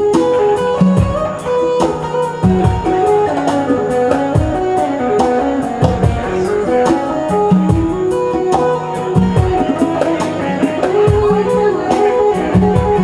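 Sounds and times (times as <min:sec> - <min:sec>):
electric guitar lead: 0:00.0 - 0:13.0
live band playing: 0:00.0 - 0:13.0.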